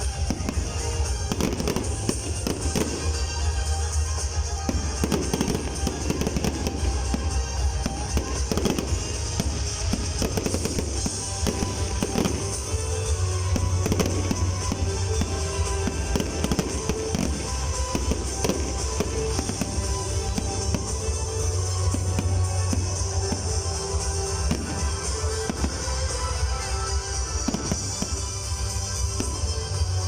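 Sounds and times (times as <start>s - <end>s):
fireworks bangs and crackles: 0.0s - 30.0s
music playing: 0.0s - 30.0s.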